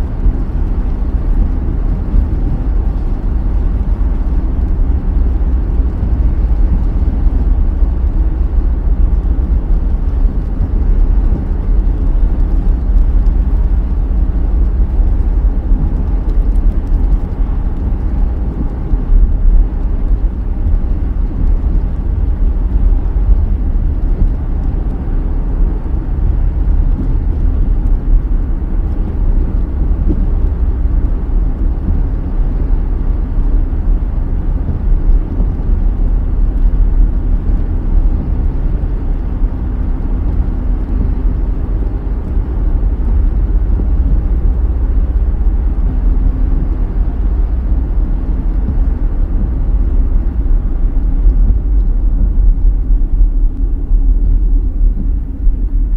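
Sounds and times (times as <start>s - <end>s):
car tyres on wet road: 0.0s - 55.9s.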